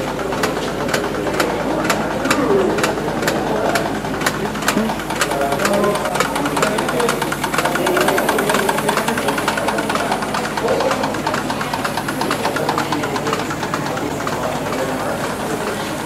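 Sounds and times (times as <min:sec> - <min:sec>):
machine clattering ticks: 0:00.0 - 0:16.0.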